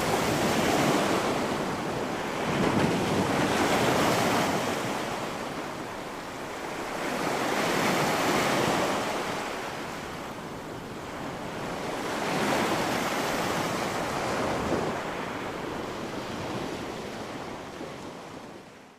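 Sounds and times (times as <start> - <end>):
sea waves breaking on a beach: 0.0 - 18.9.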